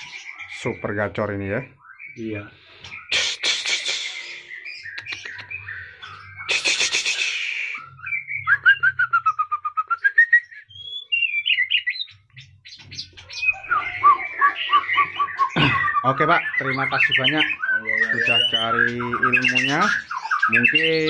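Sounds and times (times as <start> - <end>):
bird singing varied song: 0.0 - 21.0.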